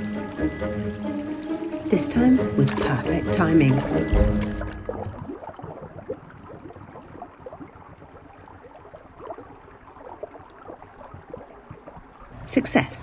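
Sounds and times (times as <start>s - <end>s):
river water trickling and bubbling: 0.0s - 12.8s.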